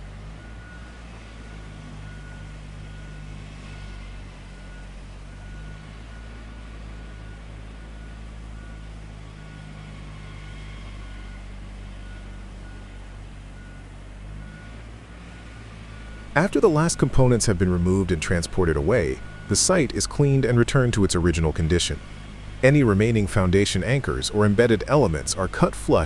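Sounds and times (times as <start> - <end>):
heavy vehicle engine running: 0.0 - 26.0
reversing alarm beeping: 0.4 - 24.0.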